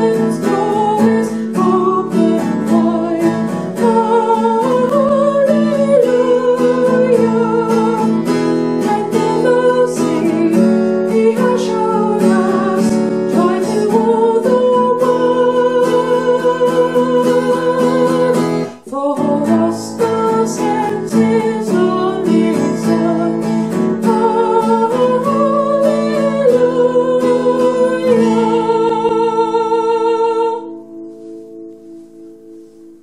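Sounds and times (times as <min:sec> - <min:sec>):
woman singing a hymn: 0:00.0 - 0:30.9
strummed acoustic guitar: 0:00.0 - 0:33.0.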